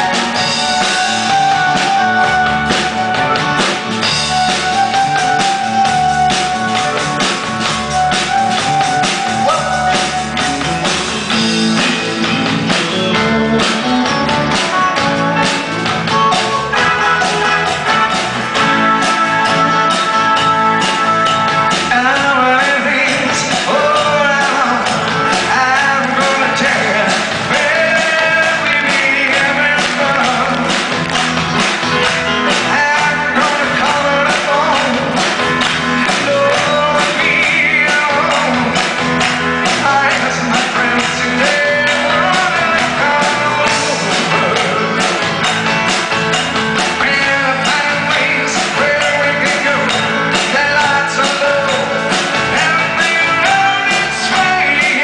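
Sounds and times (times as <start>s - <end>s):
man singing: 0.0s - 7.1s, 7.9s - 31.1s, 32.3s - 45.6s, 46.8s - 55.0s
live pop-rock band playing: 0.0s - 55.0s.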